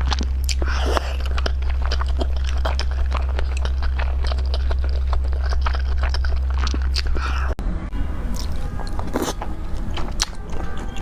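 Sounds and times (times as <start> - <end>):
low steady hum: 0.0 - 11.0
person chewing and crunching food: 0.0 - 11.0.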